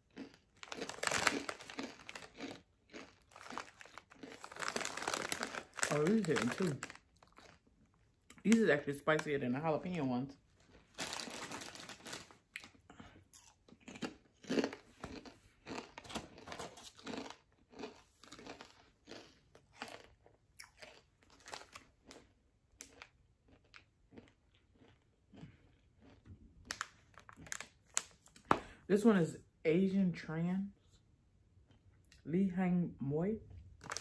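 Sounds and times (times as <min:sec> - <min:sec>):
chips crunching: 0:00.0 - 0:28.5, 0:33.8 - 0:34.0.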